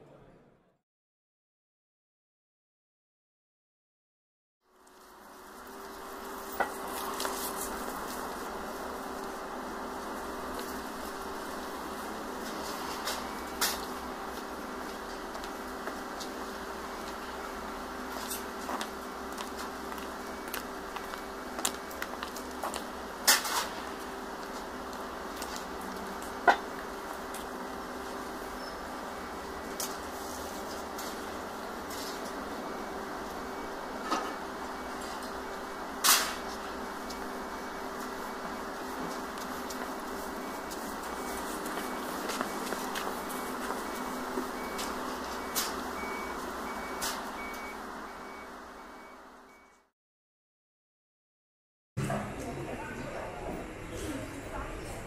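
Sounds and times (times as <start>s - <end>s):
street noise hiss: 4.7s - 49.5s
steady background hum: 5.0s - 49.6s.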